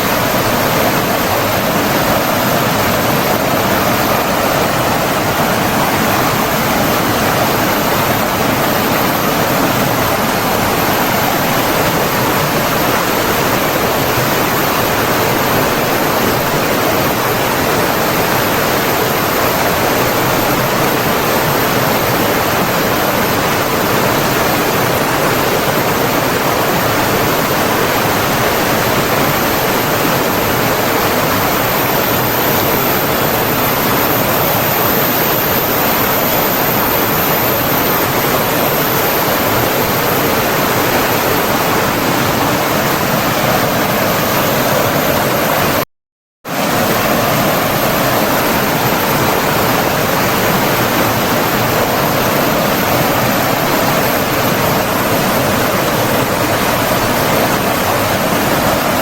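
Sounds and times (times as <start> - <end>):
water rushing steadily: 0.0 - 45.8, 46.5 - 59.0.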